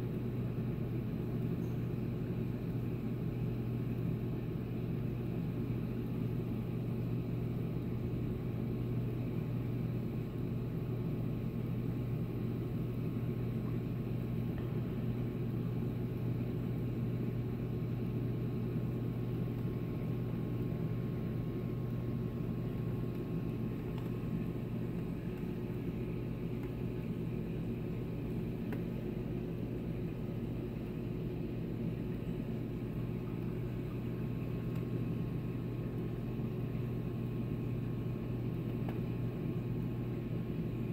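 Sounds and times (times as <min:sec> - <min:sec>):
aquarium equipment humming: 0:00.0 - 0:40.9.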